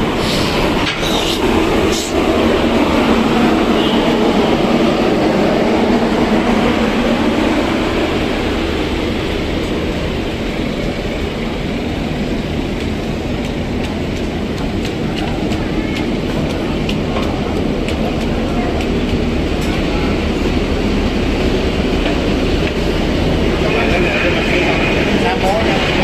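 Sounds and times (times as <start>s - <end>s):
ferry engines rumbling: 0.0s - 26.0s.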